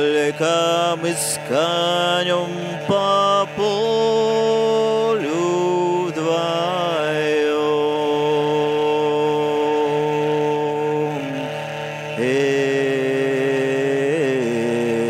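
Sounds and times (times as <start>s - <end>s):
man singing wordless phrase: 0.0s - 11.5s, 12.2s - 15.0s
hurdy-gurdy drone: 0.0s - 15.0s.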